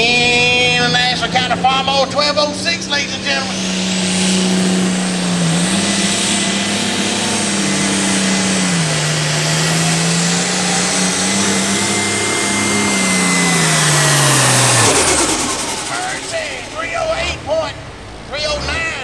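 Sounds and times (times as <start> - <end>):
steady high whine: 0.0 - 19.0
tractor diesel engine at full power: 0.0 - 19.0.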